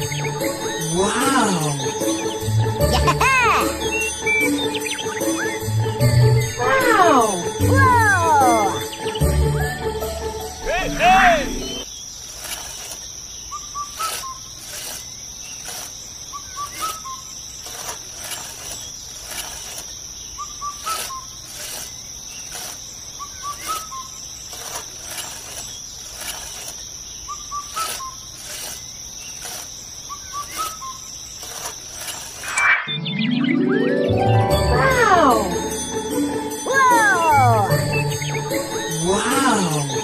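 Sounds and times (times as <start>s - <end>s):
bird chirps: 0.0s - 10.0s, 10.6s - 34.7s, 36.6s - 40.0s
high insect drone: 0.0s - 32.6s, 34.3s - 40.0s.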